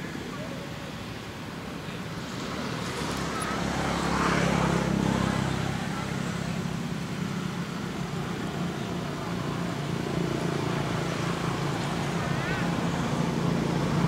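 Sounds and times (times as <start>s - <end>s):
low engine hum: 0.0s - 14.0s
outdoor background noise: 0.0s - 14.0s.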